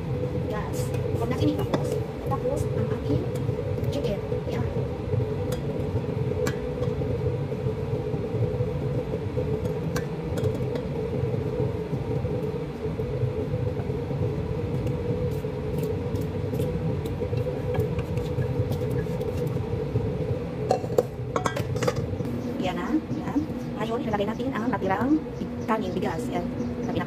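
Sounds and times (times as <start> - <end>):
low rumble and hum: 0.0 - 27.0.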